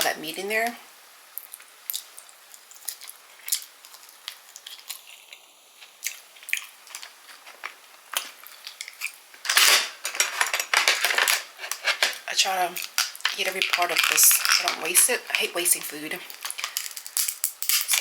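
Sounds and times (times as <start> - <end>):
crab shell cracking: 1.4 - 9.6, 10.7 - 18.0.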